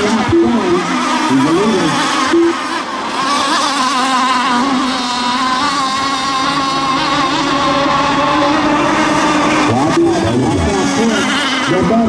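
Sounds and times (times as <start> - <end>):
racing boat motors whining: 0.0 - 12.0.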